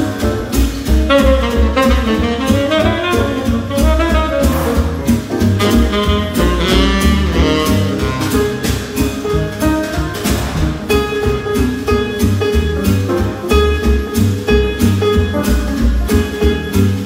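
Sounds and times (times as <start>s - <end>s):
swing jazz music: 0.0s - 17.0s.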